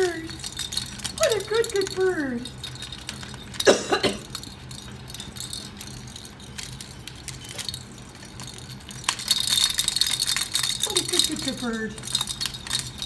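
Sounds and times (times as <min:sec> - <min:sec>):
rattle ball toy rattling: 0:00.0 - 0:13.0.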